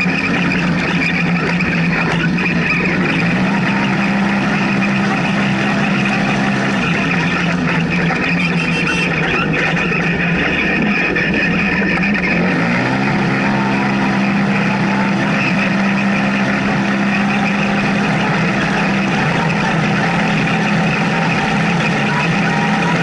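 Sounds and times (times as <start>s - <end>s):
tyre noise on dirt track: 0.0s - 23.0s
vehicle engine from inside cab: 0.0s - 23.0s.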